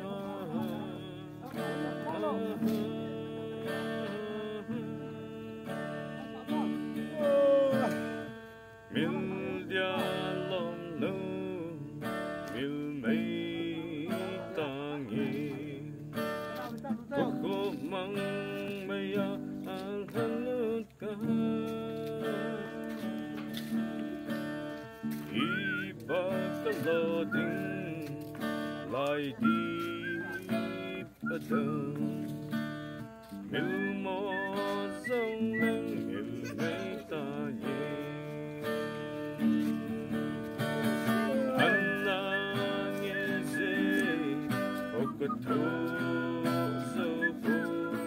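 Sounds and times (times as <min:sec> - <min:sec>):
person singing: 0:00.0 - 0:08.3, 0:08.9 - 0:11.9, 0:12.5 - 0:23.7, 0:24.8 - 0:32.6, 0:33.2 - 0:48.0
strummed acoustic guitar: 0:00.0 - 0:48.0.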